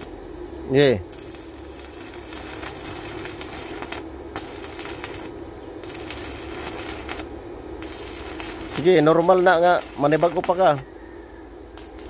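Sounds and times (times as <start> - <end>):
welding arc crackling: 0.0 - 10.9, 11.8 - 12.0.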